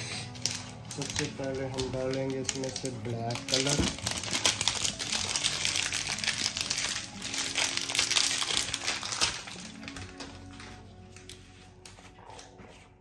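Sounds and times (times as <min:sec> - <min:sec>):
plastic bottle crinkling: 0:00.0 - 0:11.4.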